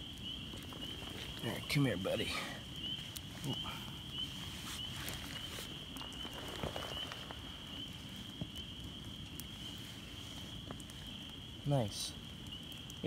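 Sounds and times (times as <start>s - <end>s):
chorus of frogs peeping: 0.0s - 13.0s
light drizzle pattering: 0.0s - 13.0s.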